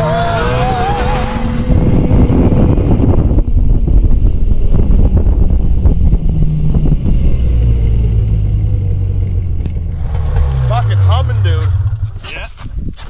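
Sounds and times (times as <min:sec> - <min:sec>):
snowmobile engine running: 0:00.0 - 0:12.5.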